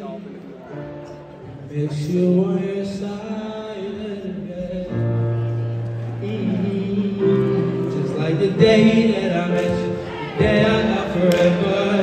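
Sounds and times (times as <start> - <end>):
grand piano accompaniment: 0.0 - 12.0
man singing: 1.5 - 12.0.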